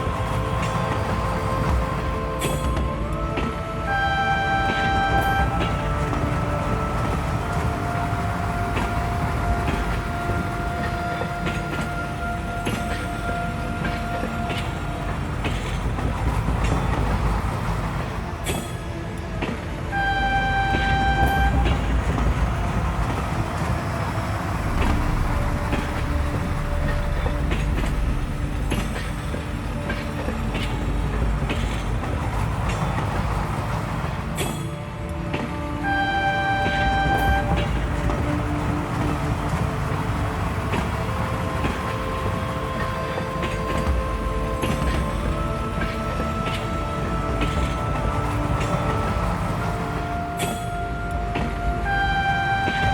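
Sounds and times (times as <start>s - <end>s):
train horn: 0.0s - 52.9s
train rumbling: 0.0s - 52.9s.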